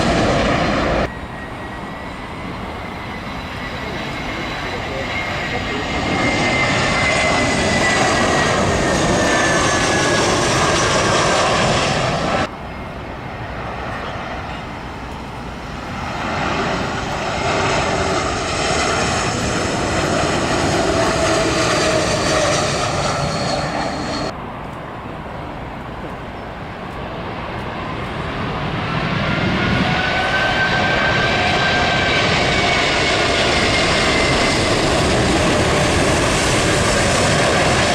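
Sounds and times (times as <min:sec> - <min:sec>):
falling jet engine whine: 0:00.0 - 0:37.9
jet airliner passing overhead: 0:00.0 - 0:37.9.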